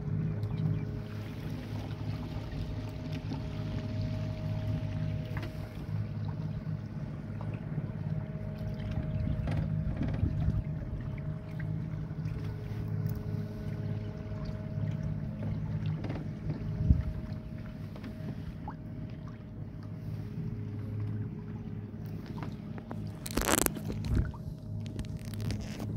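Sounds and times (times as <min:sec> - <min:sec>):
boat motor running: 0:00.0 - 0:25.9.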